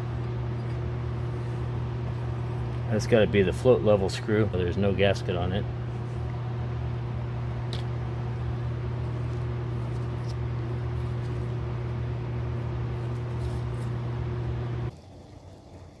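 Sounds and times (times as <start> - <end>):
machine humming and whirring: 0.0 - 14.9.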